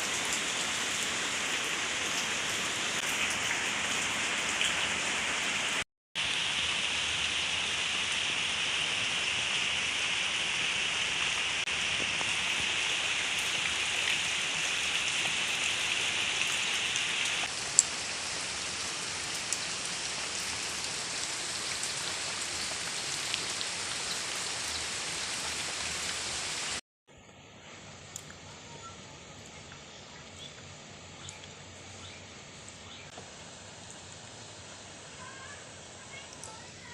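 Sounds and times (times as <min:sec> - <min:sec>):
rain falling steadily: 0:00.0 - 0:26.8, 0:27.7 - 0:36.9.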